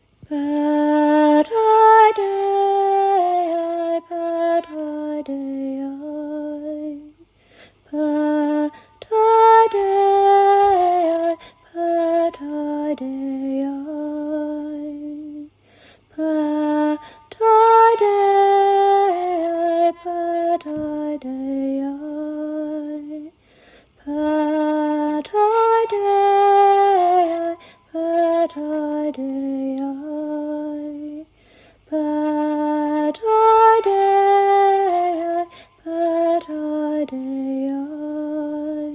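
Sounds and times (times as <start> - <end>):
woman singing chant-like melody: 0.2 - 23.4, 24.0 - 38.9.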